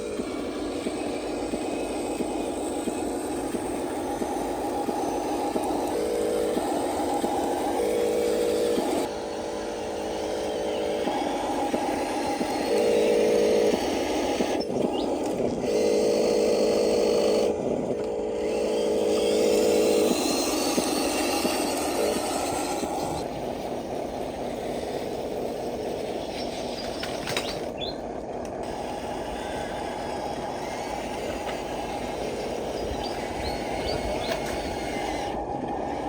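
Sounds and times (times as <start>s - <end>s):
geared electric motors whining: 0.0s - 36.0s.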